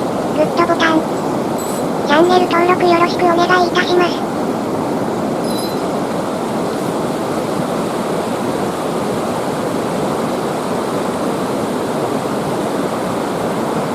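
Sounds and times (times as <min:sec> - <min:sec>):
mountain stream rushing: 0:00.0 - 0:13.9.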